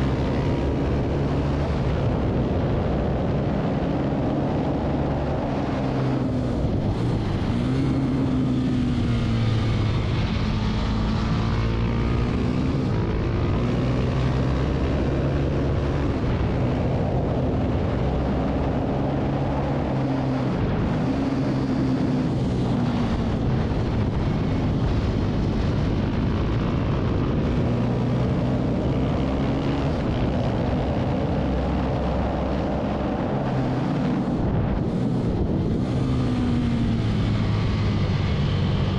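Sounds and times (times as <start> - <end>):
motorcycle engine racing: 0.0 - 38.9
wind rush: 0.0 - 38.9.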